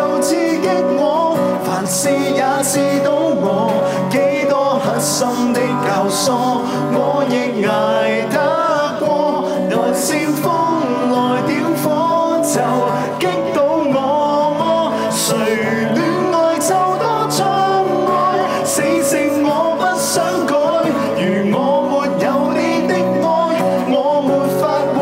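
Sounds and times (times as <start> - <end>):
strummed acoustic guitar: 0.0 - 25.0
two men singing: 0.0 - 25.0.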